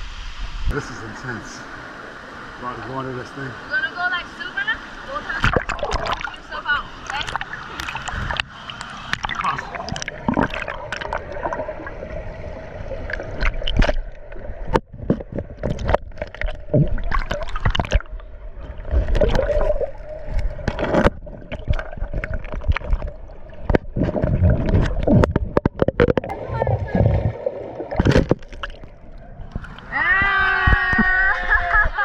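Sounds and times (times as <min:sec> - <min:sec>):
stream water gurgling: 0:00.0 - 0:32.0.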